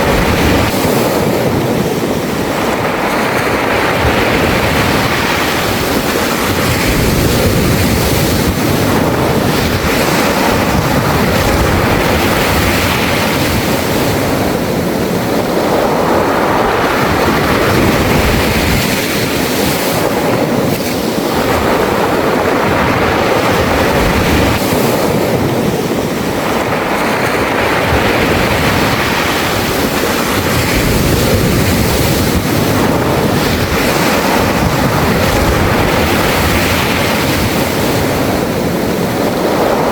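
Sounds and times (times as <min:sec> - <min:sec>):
waves washing over pebbles: 0:00.0 - 0:39.9.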